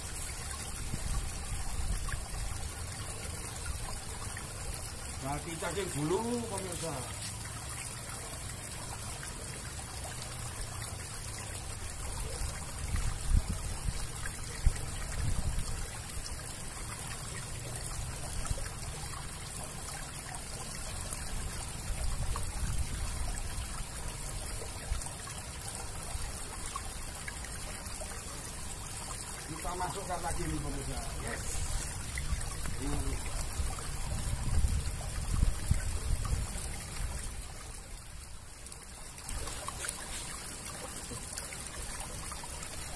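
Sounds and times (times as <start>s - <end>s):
water rushing through drain outflow: 0.0s - 42.9s.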